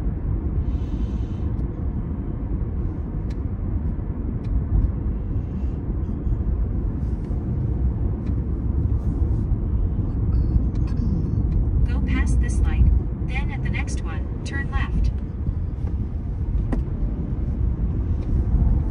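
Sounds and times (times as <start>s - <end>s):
car road and engine rumble: 0.0s - 18.9s.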